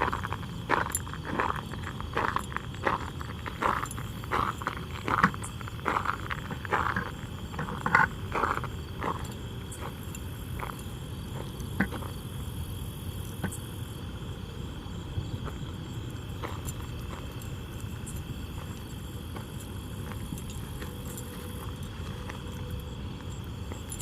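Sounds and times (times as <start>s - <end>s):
footsteps: 0.0s - 12.2s, 15.4s - 24.0s
steady low rumble: 0.0s - 24.0s.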